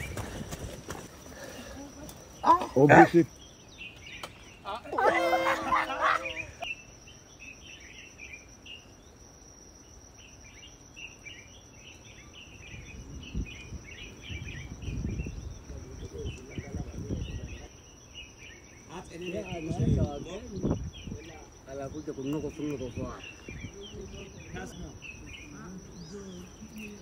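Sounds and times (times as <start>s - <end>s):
insect drone: 0.0s - 27.0s.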